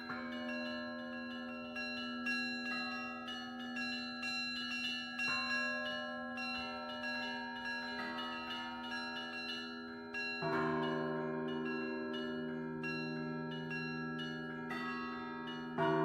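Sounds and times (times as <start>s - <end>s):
church bells ringing: 0.0s - 16.0s
large bell humming: 0.0s - 16.0s.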